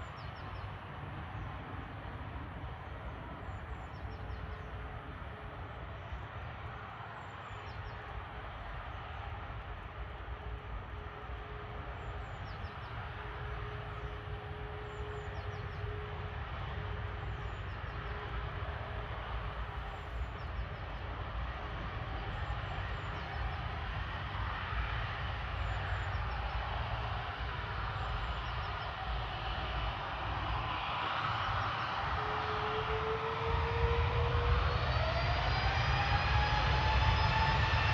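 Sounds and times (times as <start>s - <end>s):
jet engine rumble: 0.0s - 37.9s.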